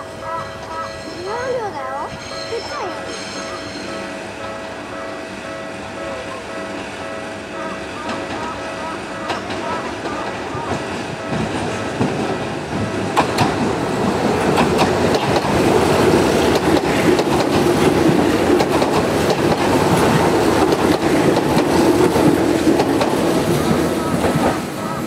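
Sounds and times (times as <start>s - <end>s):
train running drone: 0.0s - 25.0s
train wheels clacking: 0.0s - 25.0s.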